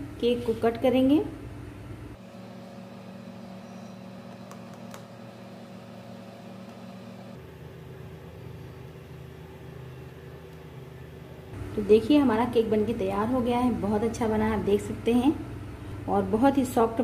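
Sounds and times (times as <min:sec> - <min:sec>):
low background hum with tones: 0:00.0 - 0:17.0.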